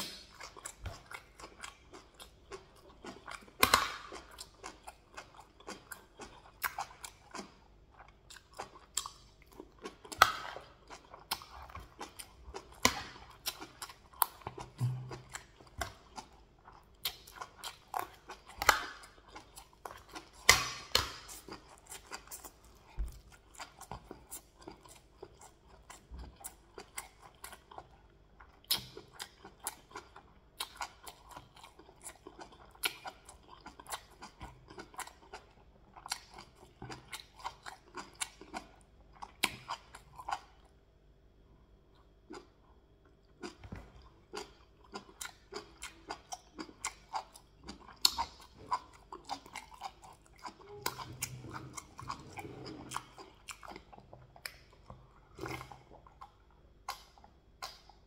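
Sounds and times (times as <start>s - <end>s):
person chewing with mouth clicks: 0.0s - 40.8s, 41.9s - 58.0s.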